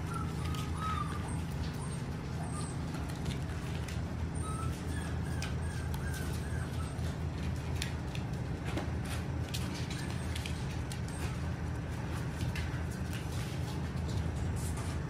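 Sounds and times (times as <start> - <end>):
puppy claws scrabbling on vinyl floor: 0.0 - 15.0.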